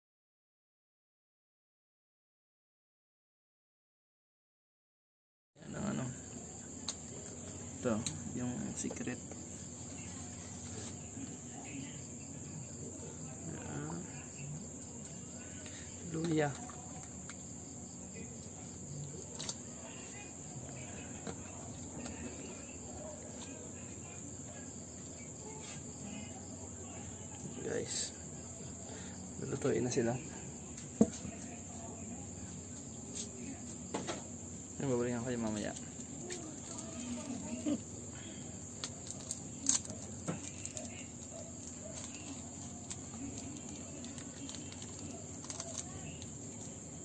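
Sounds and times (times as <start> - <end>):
crickets chirring: 5.6 - 47.0
night insects chorus: 5.6 - 47.0.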